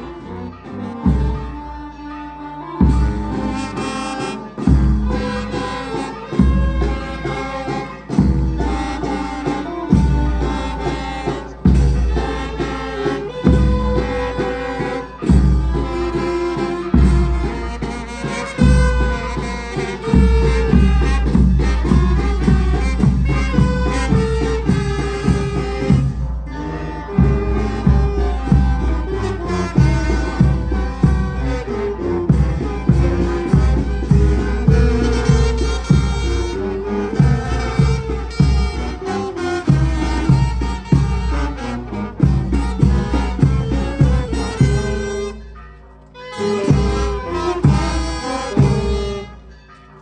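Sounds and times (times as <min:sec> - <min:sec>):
brass band music: 0:00.0 - 0:50.0.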